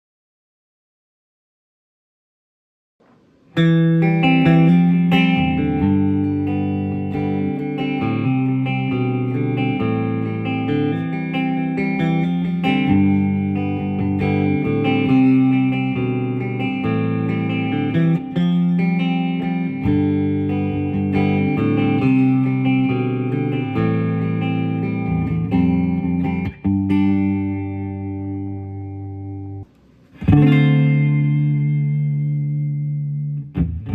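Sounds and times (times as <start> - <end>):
electric guitar playing: 3.2 - 33.9.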